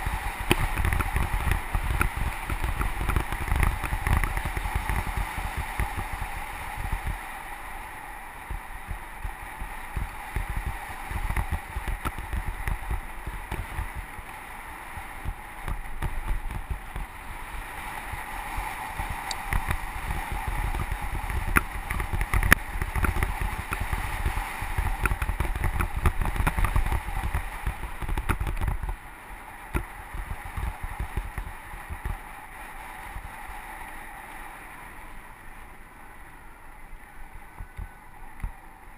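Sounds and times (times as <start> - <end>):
wind buffeting microphone: 0.0 - 35.7
bike rattling: 0.0 - 38.9.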